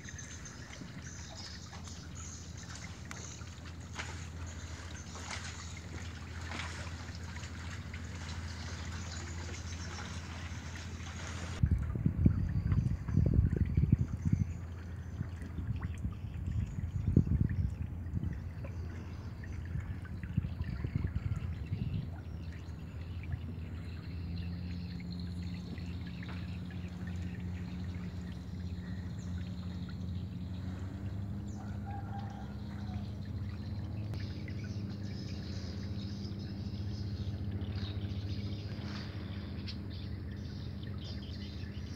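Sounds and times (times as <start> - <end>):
river water lapping: 0.0 - 41.9
small splashes: 0.0 - 41.9
steady low hum: 0.0 - 41.9.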